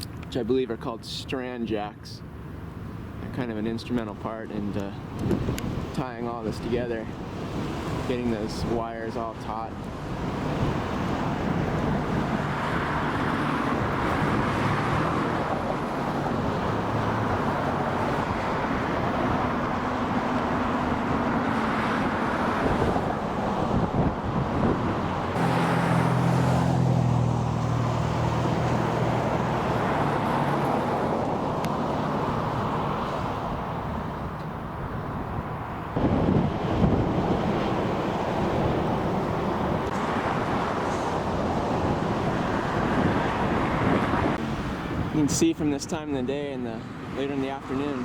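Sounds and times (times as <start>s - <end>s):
motor traffic: 0.0s - 48.0s.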